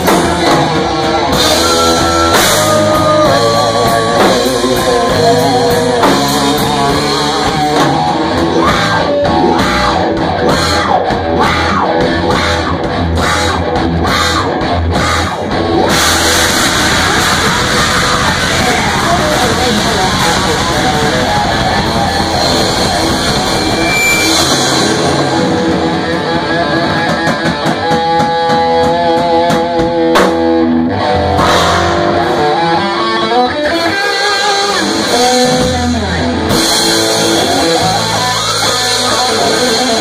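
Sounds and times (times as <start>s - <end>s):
drum kit: 0.0s - 40.0s
electric bass: 0.0s - 40.0s
electric guitar: 0.0s - 40.0s.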